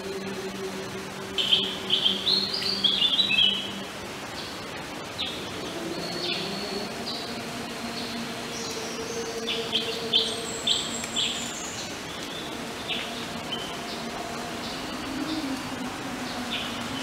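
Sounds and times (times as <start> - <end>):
birds singing: 0.0 - 17.0.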